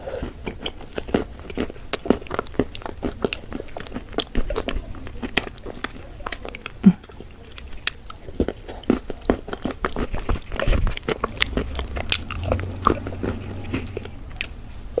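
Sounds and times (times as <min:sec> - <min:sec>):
wet mouth chewing sounds: 0:00.0 - 0:15.0.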